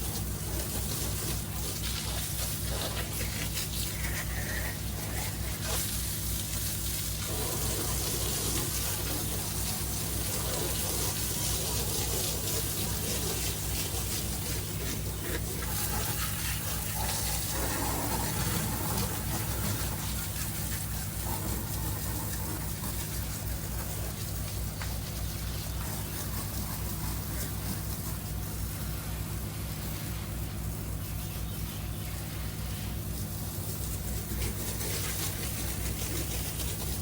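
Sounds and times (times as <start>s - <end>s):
pump pulsing hum: 0.0s - 37.0s
water spraying from hose: 0.0s - 37.0s.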